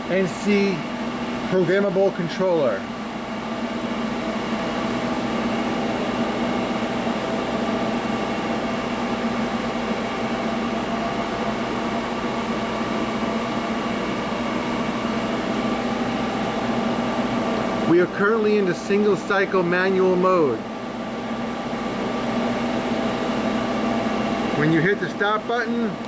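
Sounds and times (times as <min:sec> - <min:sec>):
hydraulic pump motor humming: 0:00.0 - 0:26.0.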